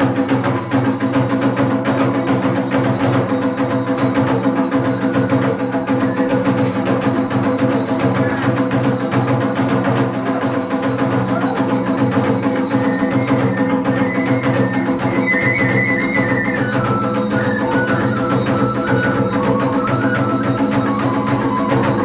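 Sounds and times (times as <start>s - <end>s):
drums beating fast: 0.0s - 22.0s
hand cymbals: 0.0s - 22.0s
high flute melody: 0.0s - 22.0s.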